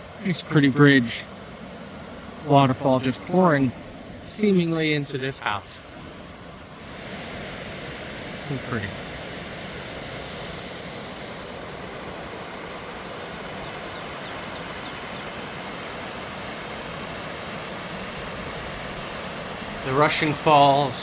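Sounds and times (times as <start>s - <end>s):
waterfall rushing: 2.2s - 5.6s, 6.8s - 21.0s.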